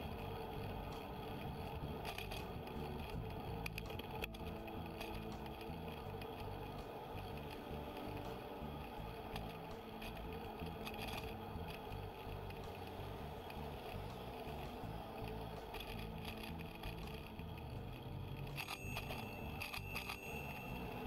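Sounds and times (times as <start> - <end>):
choppy low rumble: 0.0 - 18.6
bike tyre noise: 0.0 - 21.0.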